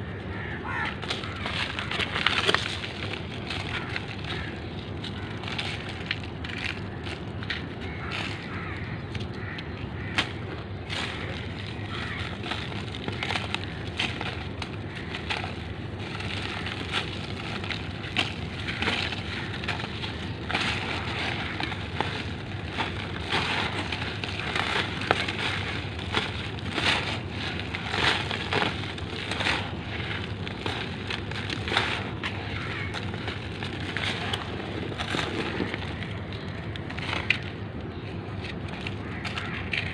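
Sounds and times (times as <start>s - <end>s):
dry cement lumps crunching: 0.0s - 39.9s.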